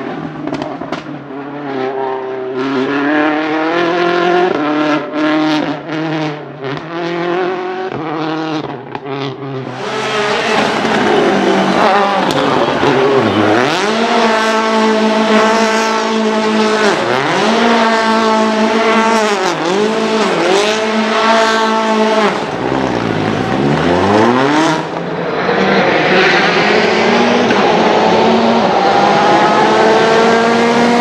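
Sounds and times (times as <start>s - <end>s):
rally car engine at high revs: 0.0s - 31.0s.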